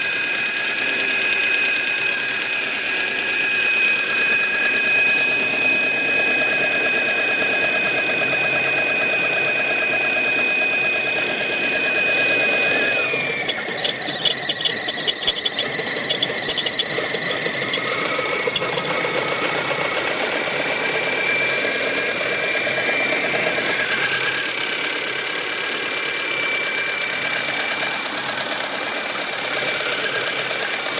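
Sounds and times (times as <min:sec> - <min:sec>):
high-pitched engine squeal: 0:00.0 - 0:30.9.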